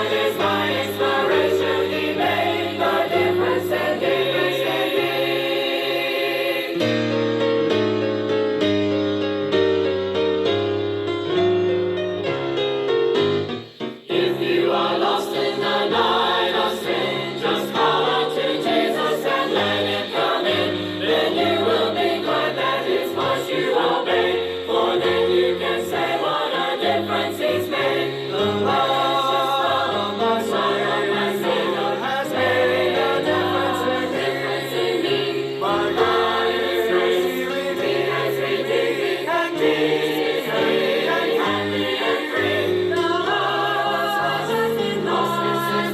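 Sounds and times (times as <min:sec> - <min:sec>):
group singing gospel: 0:00.0 - 0:07.2, 0:14.0 - 0:45.9.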